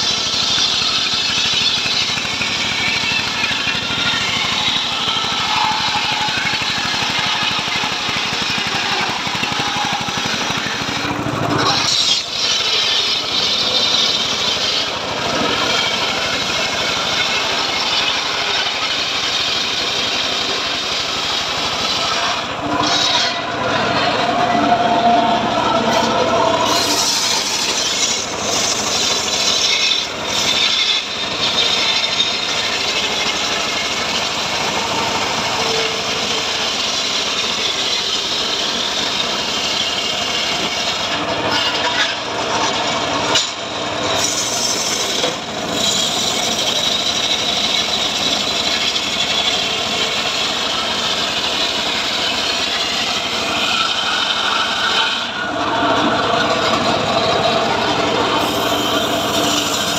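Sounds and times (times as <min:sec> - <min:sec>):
circular saw cutting log: 0:00.0 - 0:59.9.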